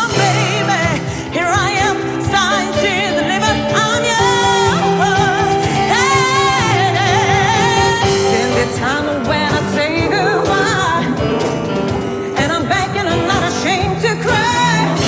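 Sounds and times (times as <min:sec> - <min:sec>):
gospel choir singing: 0:00.0 - 0:15.0
lead voice singing with vibrato: 0:00.0 - 0:15.0.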